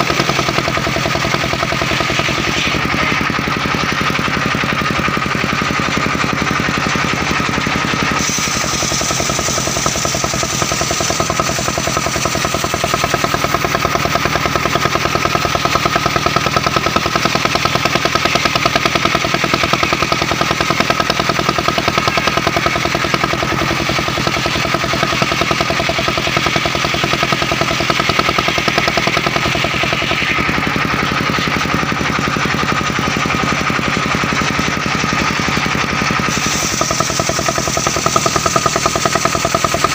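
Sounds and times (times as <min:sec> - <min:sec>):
saw blade cutting log: 0:00.0 - 0:39.9
sawmill engine pulsing: 0:00.0 - 0:39.9.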